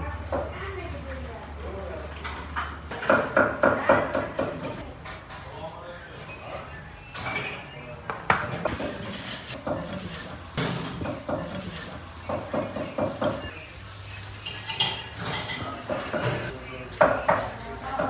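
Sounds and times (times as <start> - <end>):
gloved hands mixing vegetables: 0.0 - 4.9, 5.5 - 18.0.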